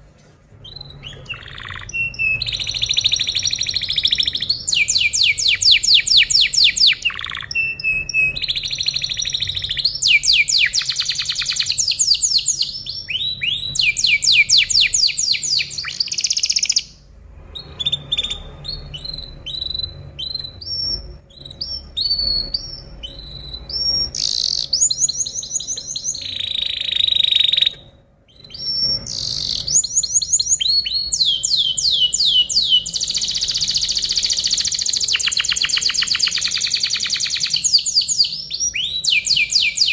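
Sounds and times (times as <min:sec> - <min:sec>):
canary singing trills: 0:00.5 - 0:39.9.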